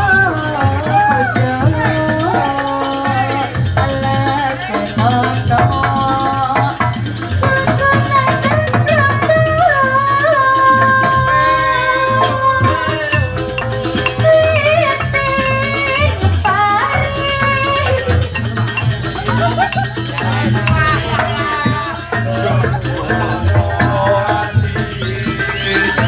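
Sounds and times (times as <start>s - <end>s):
gamelan music: 0.0s - 26.0s
hand drum rhythm: 0.0s - 26.0s.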